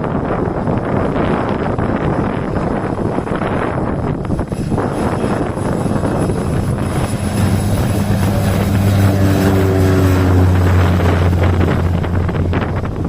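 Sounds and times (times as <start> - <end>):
turboprop engine drone: 0.0 - 13.0
wind noise on microphone: 0.0 - 13.0.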